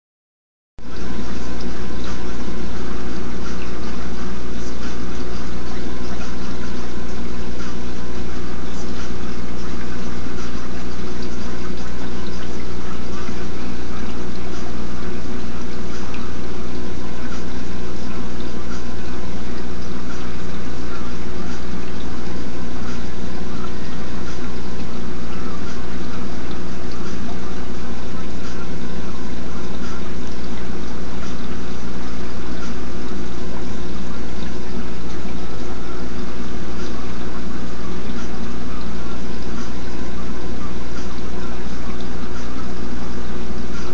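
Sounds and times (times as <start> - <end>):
pump hum: 0.8 - 43.9
trickling water: 0.8 - 43.9.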